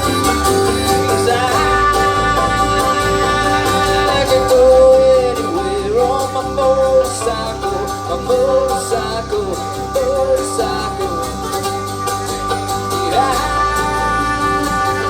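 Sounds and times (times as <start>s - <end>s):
country-rock band playing: 0.0s - 15.0s
sliding lead guitar line: 0.0s - 15.0s.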